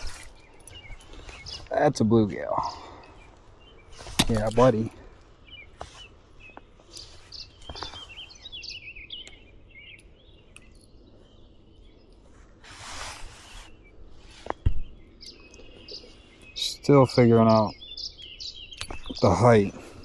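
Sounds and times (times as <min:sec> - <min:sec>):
birds chirping: 0:00.0 - 0:20.0
outdoor background noise: 0:00.0 - 0:20.0.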